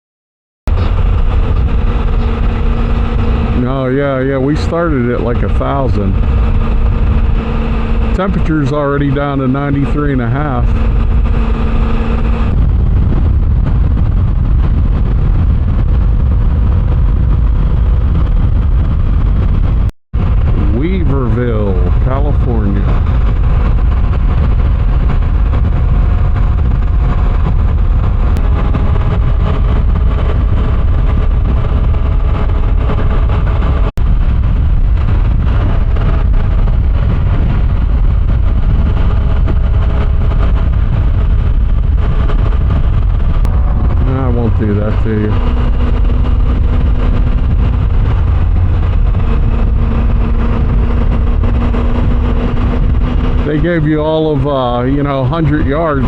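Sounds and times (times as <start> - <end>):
motorcycle engine hum: 0.7 - 56.0
wind rushing over microphone: 0.7 - 56.0.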